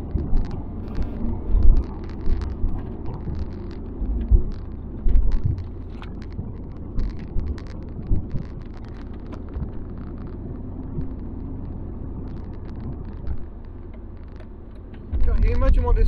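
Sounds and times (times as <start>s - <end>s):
car engine and tyre rumble: 0.0s - 16.0s
small clicks: 0.0s - 16.0s.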